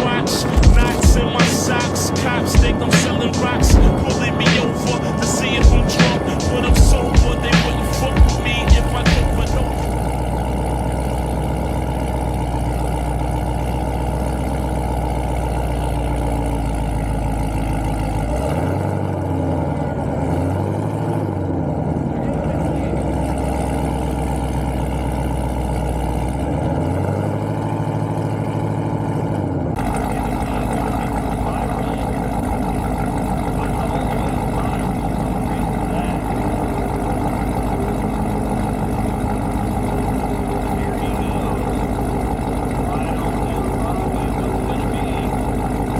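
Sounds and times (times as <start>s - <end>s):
car engine idling and revving: 0.0s - 45.9s.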